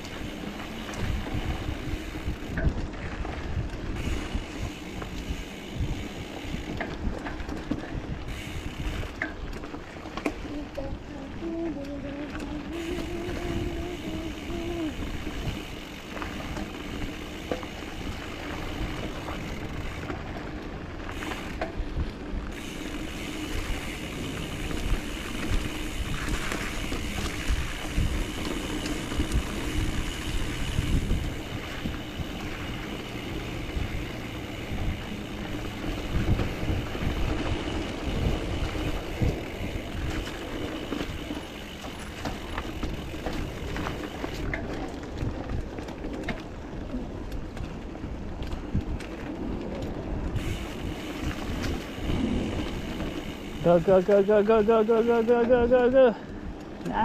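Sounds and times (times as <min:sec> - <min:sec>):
bike knocks and rattles: 0:00.0 - 0:10.9, 0:11.6 - 0:46.7
bike tyre and wind noise: 0:00.0 - 0:57.0.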